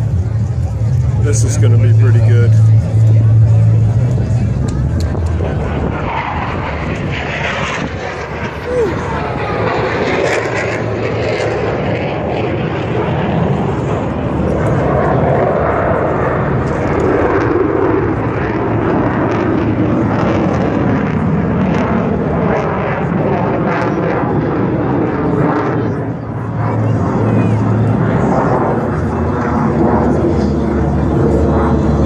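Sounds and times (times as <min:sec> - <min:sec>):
jet engines flying past: 0:00.0 - 0:32.0.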